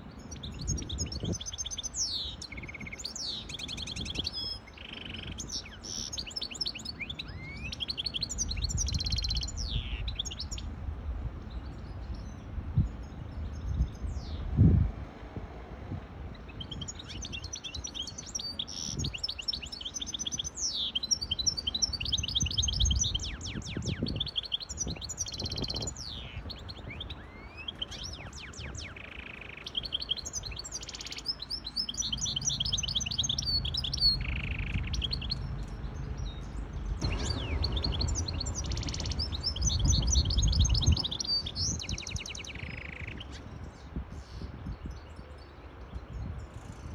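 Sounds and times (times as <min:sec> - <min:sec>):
finch singing rapid trills: 0:00.1 - 0:10.7, 0:16.4 - 0:46.9.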